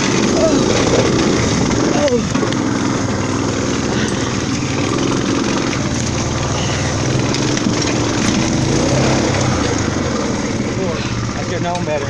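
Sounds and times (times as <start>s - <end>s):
small utility vehicle engine: 0.0s - 12.0s.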